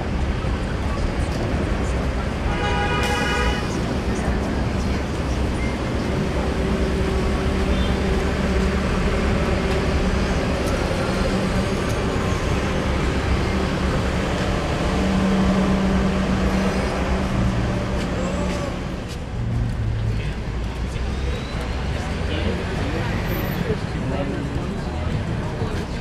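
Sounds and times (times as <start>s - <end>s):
heavy vehicle engine hum: 0.0s - 26.0s
road traffic noise: 0.0s - 26.0s.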